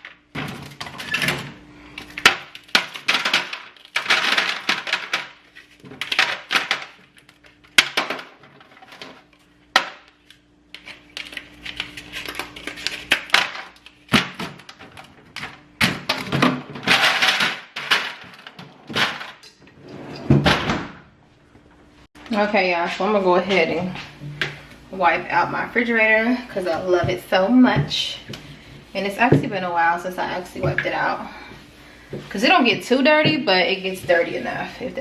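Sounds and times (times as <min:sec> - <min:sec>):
kitchen items clattering: 0:00.0 - 0:10.1, 0:10.8 - 0:21.2, 0:25.3 - 0:35.0.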